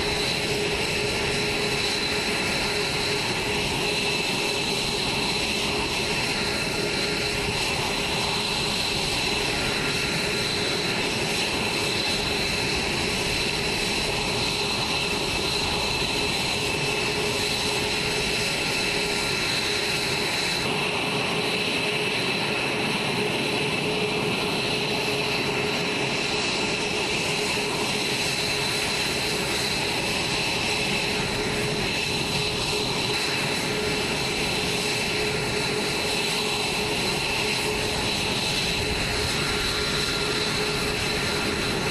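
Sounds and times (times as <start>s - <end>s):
jet engines idling: 0.0s - 41.9s.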